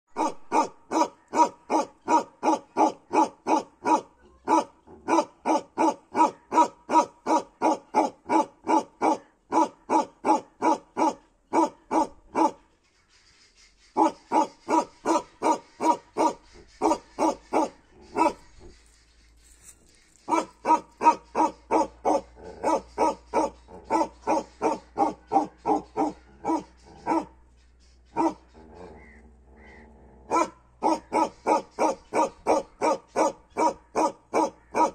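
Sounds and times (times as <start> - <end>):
dog barking deeply: 0.1 - 12.6, 14.0 - 18.5, 20.3 - 27.4, 28.1 - 34.9.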